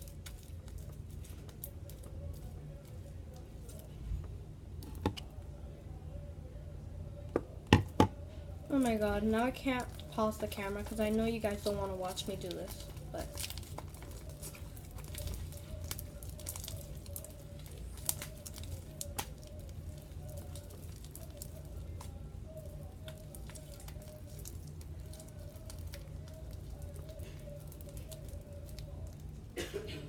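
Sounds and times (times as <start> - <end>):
slime crackling and popping: 0.0 - 4.0, 8.7 - 29.6
low background hum: 0.0 - 30.0.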